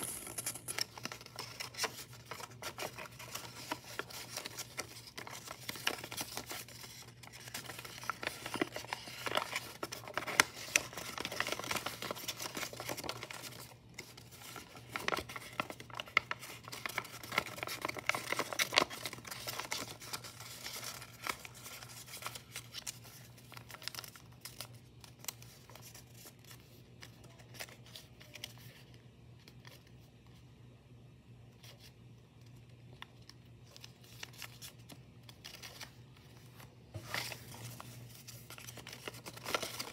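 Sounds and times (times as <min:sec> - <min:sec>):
paper rustling and crinkling: 0:00.7 - 0:30.1, 0:33.0 - 0:39.9.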